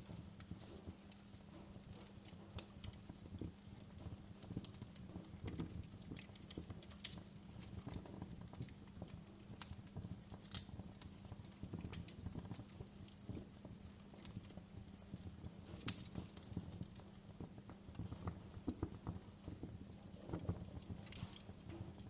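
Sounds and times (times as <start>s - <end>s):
low rumble of burning: 0.0s - 22.0s
wood fire crackling: 0.0s - 22.0s.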